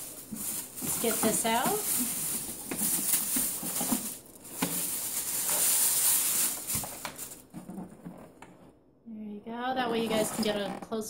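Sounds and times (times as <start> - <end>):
plastic bag crinkling: 0.0 - 8.4, 9.9 - 10.7.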